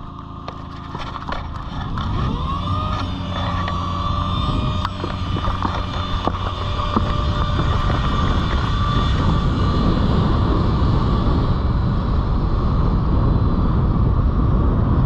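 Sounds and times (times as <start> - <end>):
tow engine running: 0.0 - 15.0.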